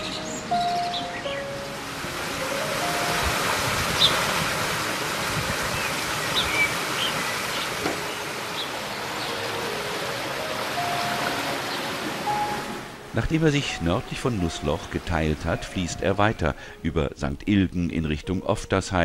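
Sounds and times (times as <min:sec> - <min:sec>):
creek water splashing: 0:00.0 - 0:16.9.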